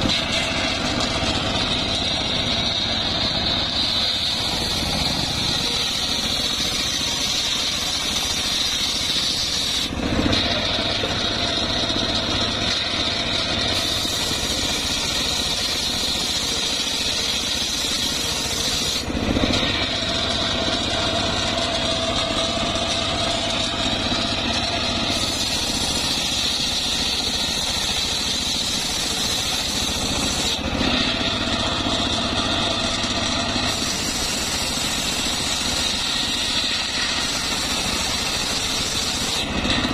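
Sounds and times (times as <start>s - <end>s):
saw drive low hum: 0.0s - 39.9s
table saw blade whining through wood: 0.0s - 39.9s.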